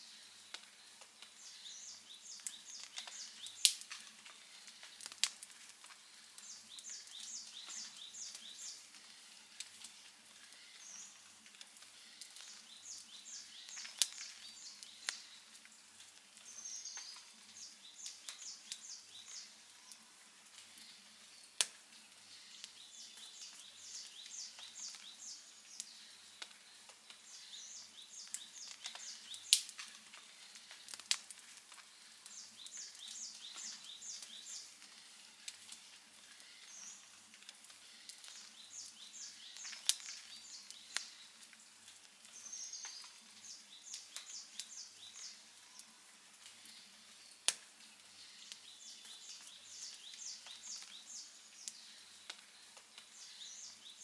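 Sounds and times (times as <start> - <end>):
wood fire crackling: 0.0 - 54.0
loud fire snaps: 2.2 - 46.8, 47.4 - 54.0.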